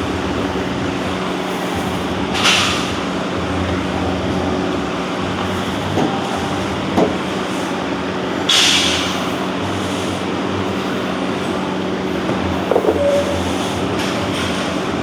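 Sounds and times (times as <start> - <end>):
rumbling machine hum: 0.0 - 15.0.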